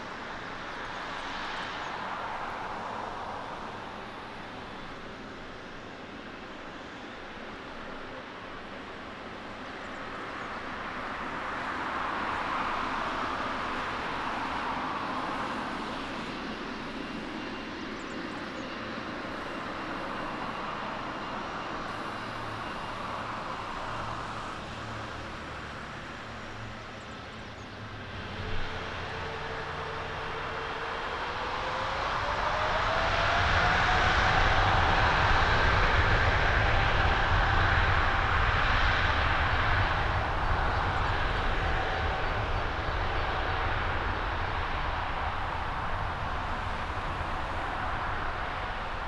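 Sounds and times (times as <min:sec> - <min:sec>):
jet engines rushing: 0:00.0 - 0:49.0
rising jet engine whine: 0:00.0 - 0:49.0.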